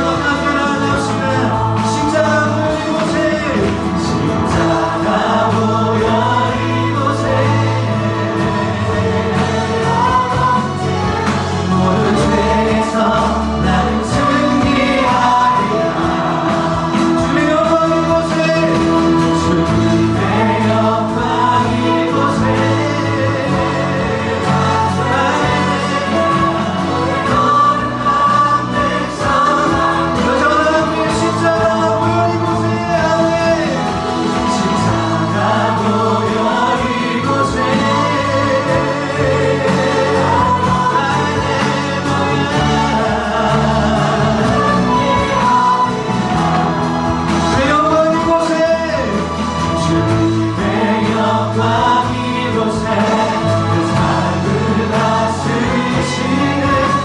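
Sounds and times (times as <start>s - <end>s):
group singing worship song: 0.0s - 57.0s
instrumental accompaniment: 0.0s - 57.0s.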